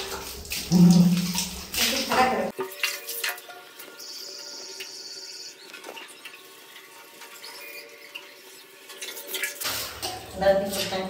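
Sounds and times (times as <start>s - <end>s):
water dripping: 0.0s - 11.0s.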